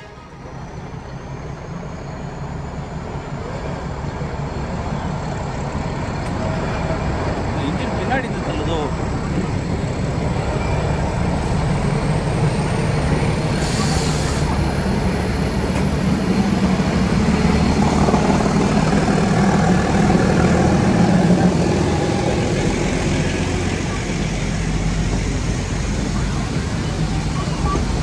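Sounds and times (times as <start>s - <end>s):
diesel train running: 0.0s - 28.0s.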